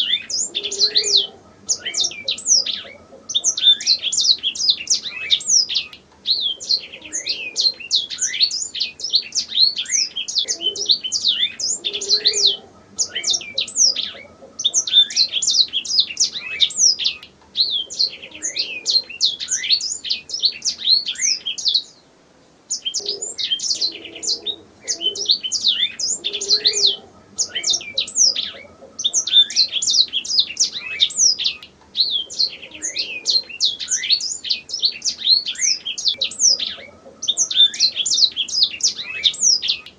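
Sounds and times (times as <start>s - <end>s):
canary singing trills: 0.0s - 22.0s, 22.7s - 39.9s.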